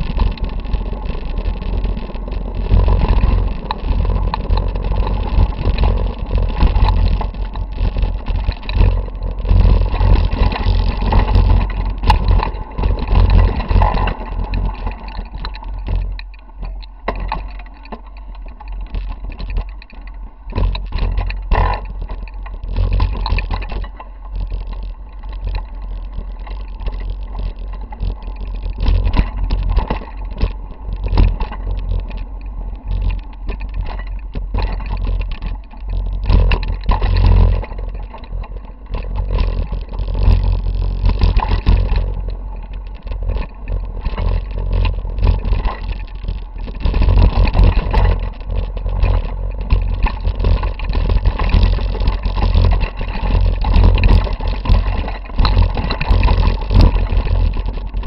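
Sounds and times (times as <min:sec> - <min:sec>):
bike rattling over rocks: 0:00.0 - 0:58.0
heavy low rumble: 0:00.0 - 0:58.0.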